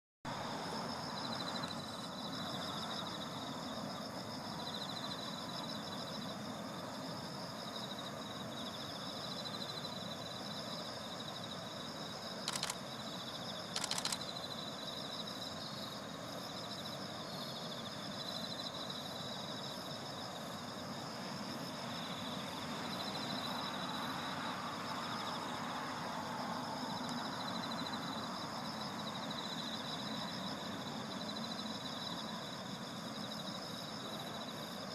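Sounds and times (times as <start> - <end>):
insects trilling: 0.3 - 34.9.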